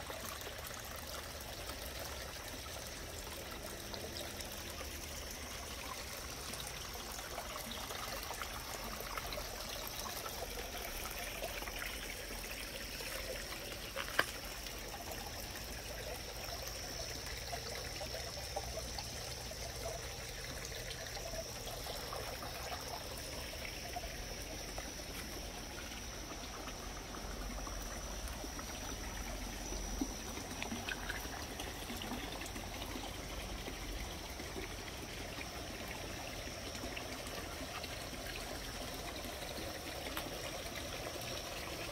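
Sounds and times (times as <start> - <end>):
water trickling over rocks: 0.0 - 41.9.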